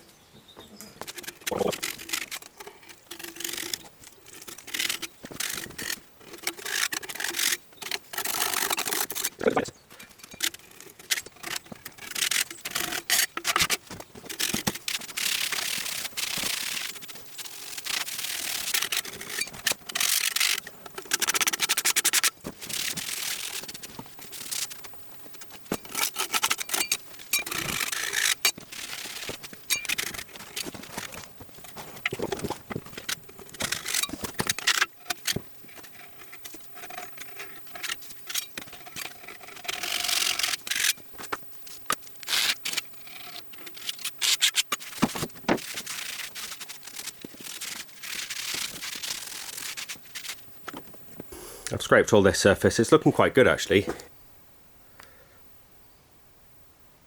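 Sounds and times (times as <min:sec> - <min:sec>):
scraping gasket off metal: 0:01.0 - 0:09.4, 0:10.0 - 0:51.3.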